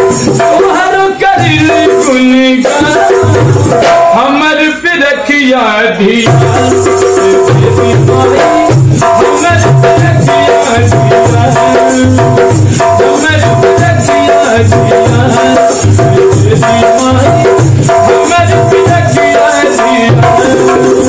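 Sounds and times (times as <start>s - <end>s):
hand drum playing folk rhythm: 0.0s - 4.2s, 6.3s - 21.0s.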